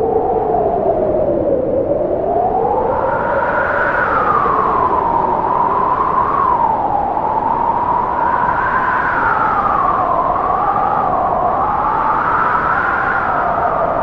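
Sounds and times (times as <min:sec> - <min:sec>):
strong wind whistling: 0:00.0 - 0:14.0.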